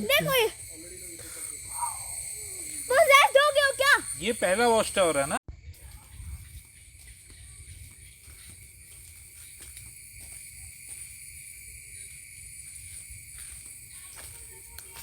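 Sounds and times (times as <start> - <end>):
shrill insect chorus: 0.0 - 15.0.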